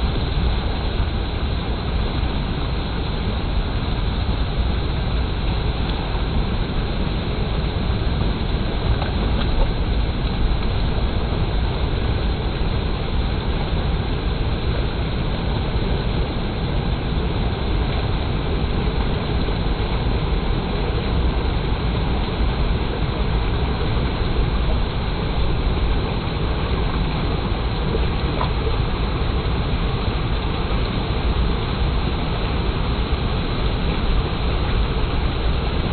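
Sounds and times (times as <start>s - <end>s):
water flowing: 0.0s - 35.9s.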